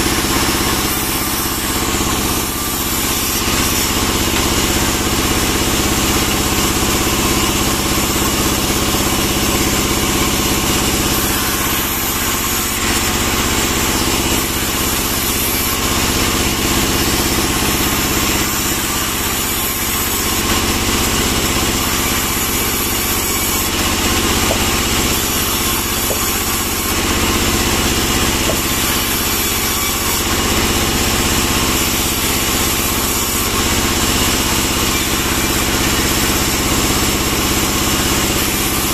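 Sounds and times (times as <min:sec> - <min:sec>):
band sawmill droning: 0:00.0 - 0:38.9.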